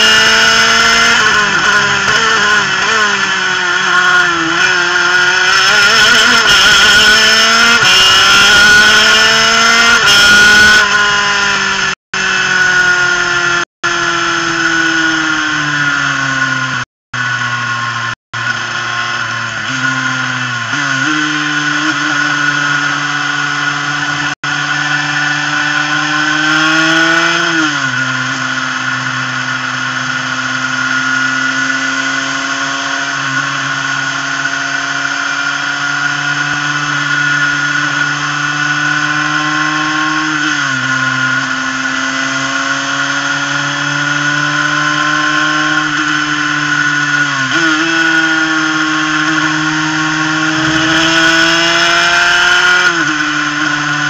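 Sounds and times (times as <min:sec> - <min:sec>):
two-stroke racing engine buzzing: 0:00.0 - 0:54.0.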